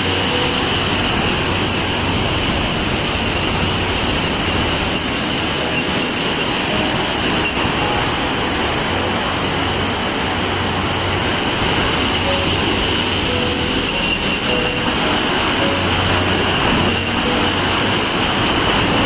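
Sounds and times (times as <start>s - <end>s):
large waterfall rushing: 0.0s - 19.0s.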